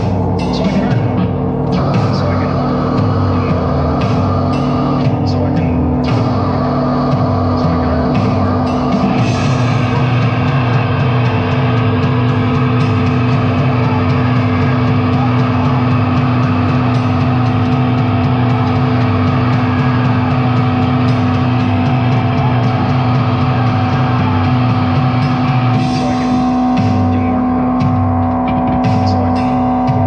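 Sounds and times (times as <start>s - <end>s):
distorted electronic noise: 0.0s - 30.0s
pulsing low tone: 0.0s - 30.0s
steady drone: 0.0s - 30.0s.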